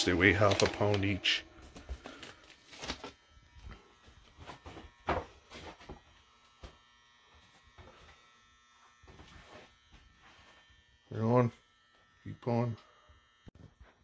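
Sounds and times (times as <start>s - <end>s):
faint electrical buzz: 0.0s - 14.0s.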